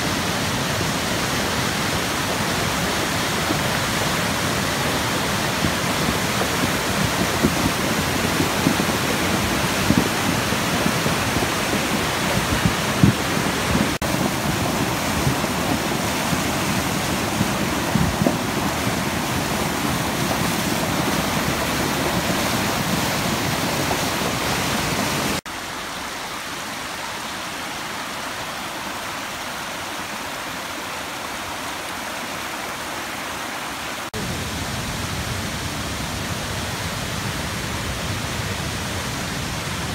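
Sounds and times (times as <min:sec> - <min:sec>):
flooded creek rushing: 0:00.0 - 0:39.9.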